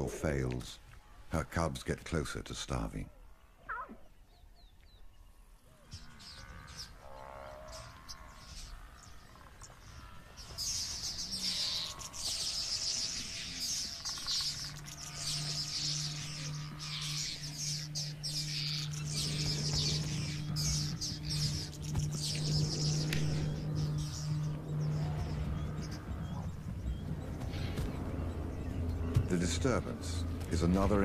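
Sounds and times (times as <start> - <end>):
birds chattering: 0.0 - 31.0
low steady hum: 0.0 - 31.0.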